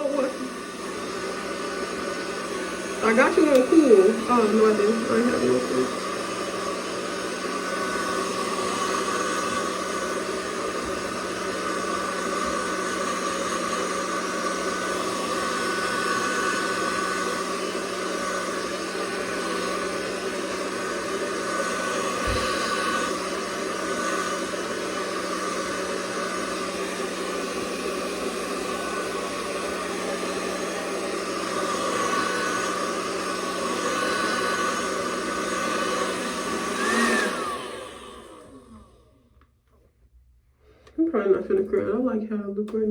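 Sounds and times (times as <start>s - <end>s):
hair dryer blowing: 0.0s - 39.6s.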